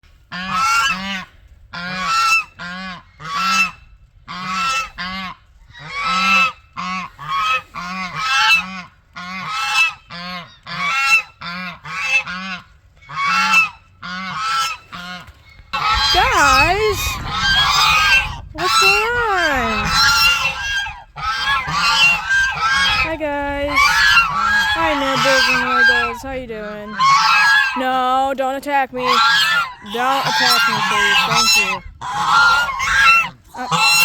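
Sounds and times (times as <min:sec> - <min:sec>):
geese honking: 0:00.3 - 0:28.0, 0:28.9 - 0:34.0.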